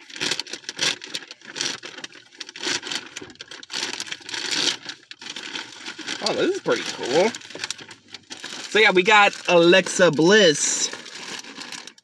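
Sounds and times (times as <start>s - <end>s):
bag crinkling and tearing: 0.0s - 12.0s.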